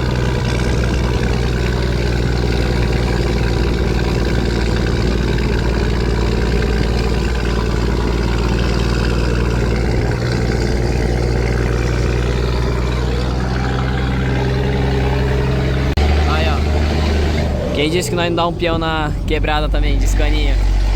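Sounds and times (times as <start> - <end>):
truck diesel engine running: 0.0 - 20.9.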